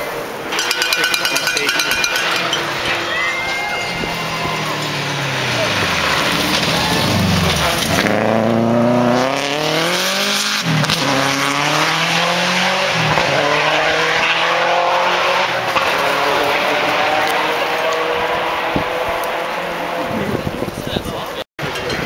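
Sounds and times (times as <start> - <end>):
rally car engine revving: 0.4 - 20.7.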